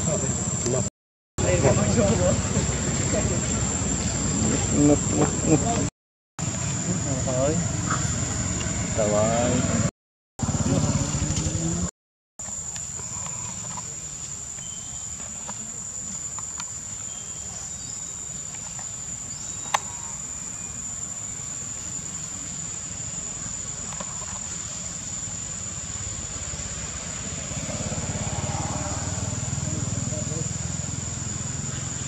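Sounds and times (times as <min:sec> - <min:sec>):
high-pitched insect drone: 0:01.4 - 0:32.0.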